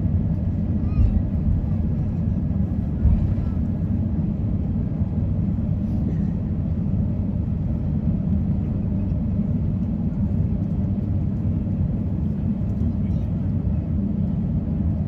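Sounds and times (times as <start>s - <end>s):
low rumble in aircraft cabin: 0.0s - 15.0s.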